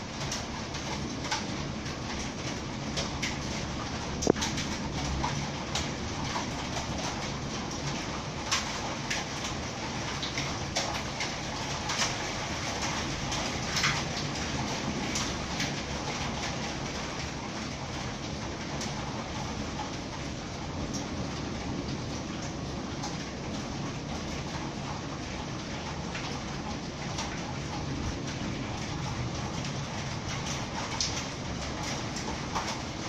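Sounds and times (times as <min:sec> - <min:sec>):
raindrops ticking: 0:00.0 - 0:33.0.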